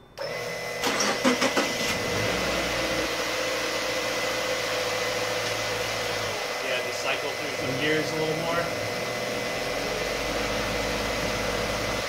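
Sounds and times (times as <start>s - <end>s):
car engine starting and running: 0.0s - 12.0s
steady whine: 0.0s - 12.0s.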